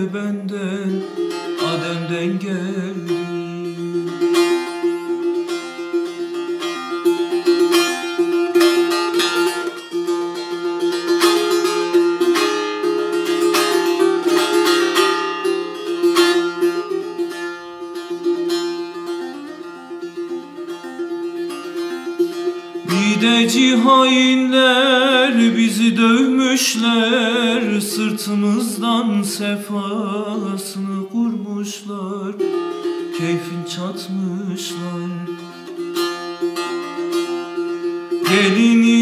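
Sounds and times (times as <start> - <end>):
plucked long-necked lute: 0.0 - 39.0.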